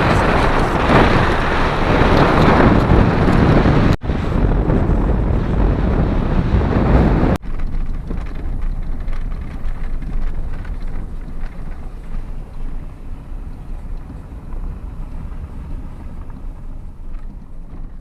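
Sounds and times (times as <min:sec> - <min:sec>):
low rumble: 0:00.0 - 0:18.0
wind buffeting microphone: 0:00.0 - 0:18.0.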